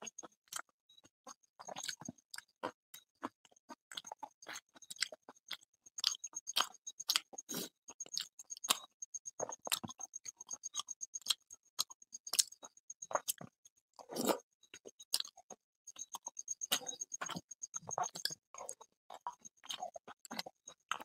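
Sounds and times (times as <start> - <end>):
chewing and lip smacks: 0.2 - 21.0.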